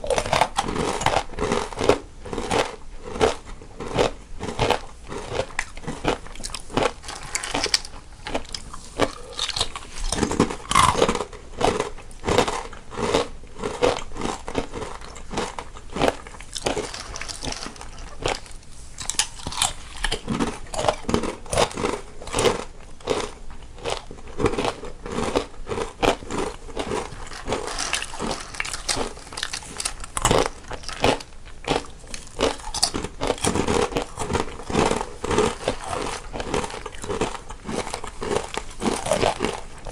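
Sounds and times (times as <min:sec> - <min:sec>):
people chewing crunchy snacks: 0:00.0 - 0:39.9.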